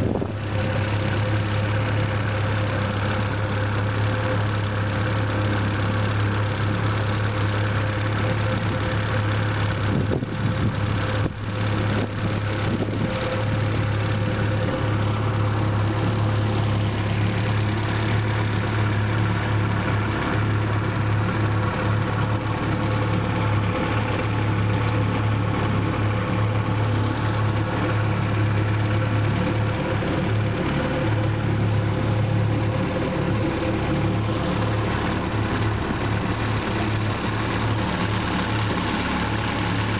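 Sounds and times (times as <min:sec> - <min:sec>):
outboard motor humming: 0:00.0 - 0:39.9.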